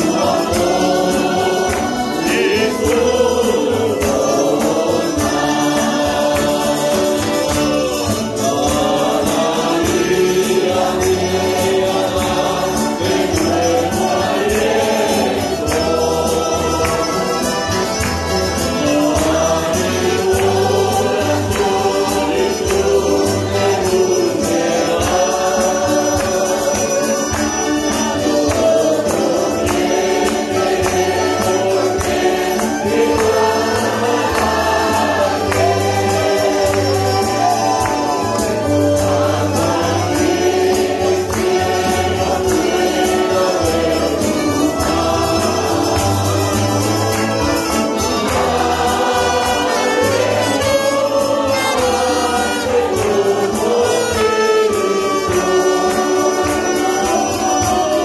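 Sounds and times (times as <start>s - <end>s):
accordion: 0.0s - 58.0s
congregation singing a hymn: 0.0s - 58.0s
mandolins: 0.0s - 58.0s
strummed acoustic guitars: 0.0s - 58.0s.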